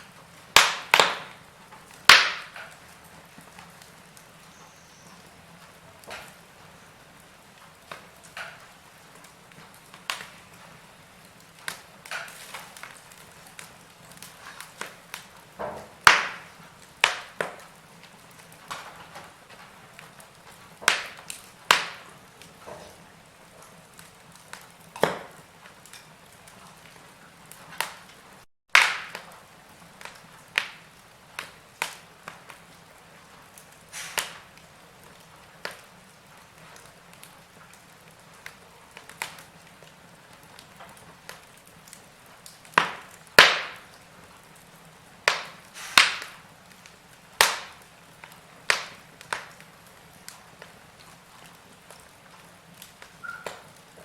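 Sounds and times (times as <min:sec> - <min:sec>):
soft steady hiss: 0:00.0 - 0:54.0
wood fire crackling: 0:00.0 - 0:54.0.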